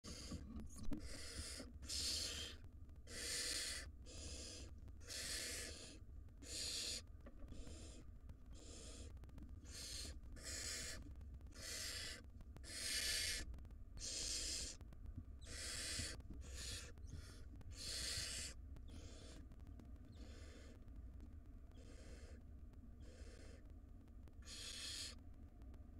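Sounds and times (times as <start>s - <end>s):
low steady hum: 0.0s - 25.9s
owl nestlings screeching: 0.1s - 0.4s, 1.0s - 14.8s, 15.4s - 19.4s, 20.1s - 20.8s, 21.7s - 22.4s, 23.0s - 23.6s, 24.4s - 25.2s.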